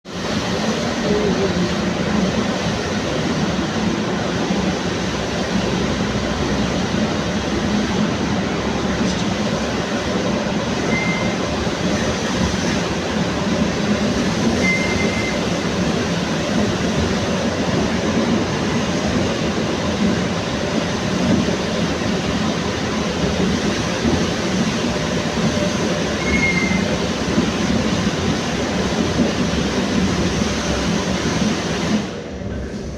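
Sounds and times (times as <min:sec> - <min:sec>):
train running: 0:00.1 - 0:32.9.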